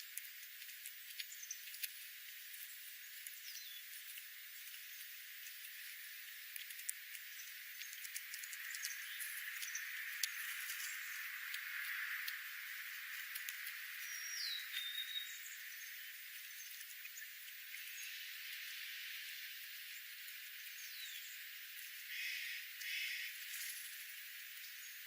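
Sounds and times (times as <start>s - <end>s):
faint bird chips: 0.0s - 25.0s
steady hiss: 0.0s - 25.0s.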